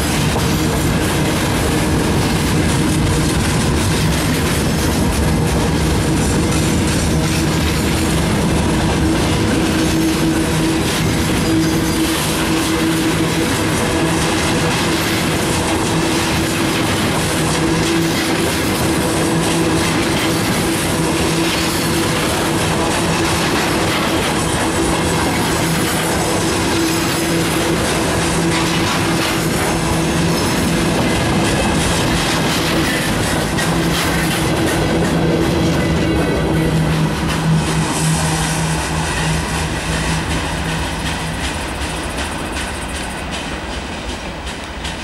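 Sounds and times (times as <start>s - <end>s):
train wheels rumbling and clattering: 0.0s - 45.0s.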